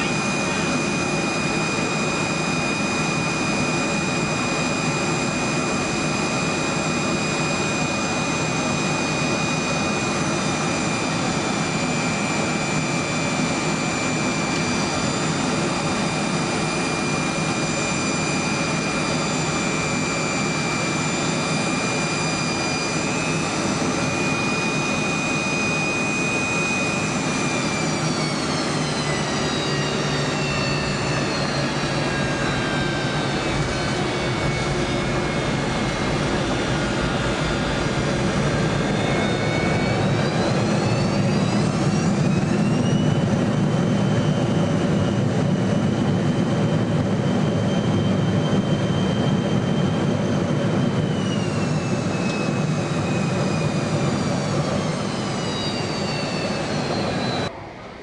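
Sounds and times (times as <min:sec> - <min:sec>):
jet engine roar and whine: 0:00.0 - 0:58.0.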